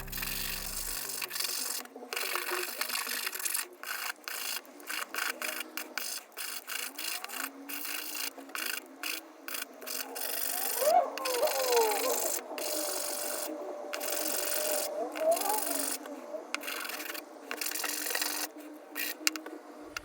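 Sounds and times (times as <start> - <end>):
sandpaper rubbing on wood: 0.0 - 19.3.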